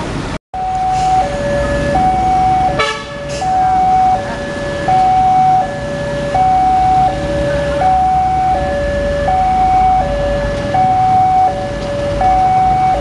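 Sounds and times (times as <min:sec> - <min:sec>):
level-crossing alarm two-tone warning: 0:00.6 - 0:13.0.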